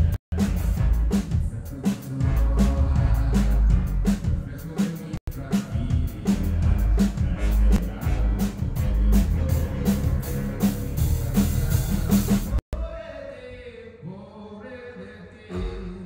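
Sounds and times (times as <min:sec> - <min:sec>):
drum kit with cymbal hits: 0:00.0 - 0:12.9
heavy bass: 0:00.0 - 0:12.9, 0:15.5 - 0:16.0.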